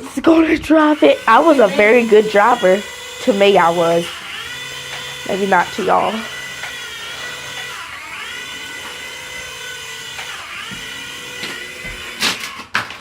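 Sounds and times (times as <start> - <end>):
toy helicopter motor whining: 0.0 - 13.0.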